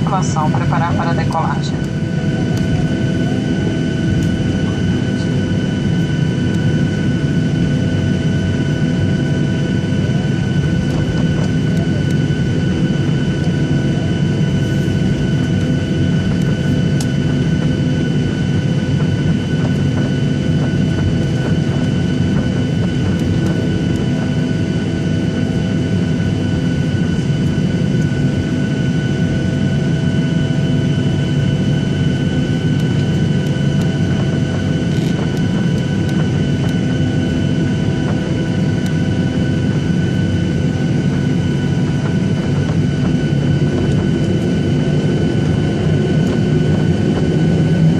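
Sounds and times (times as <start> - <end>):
jet engines roaring at takeoff: 0.0 - 47.9.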